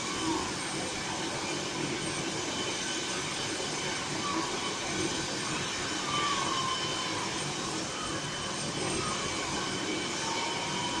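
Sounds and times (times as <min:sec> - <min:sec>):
helicopter turbine engines running: 0:00.0 - 0:11.0.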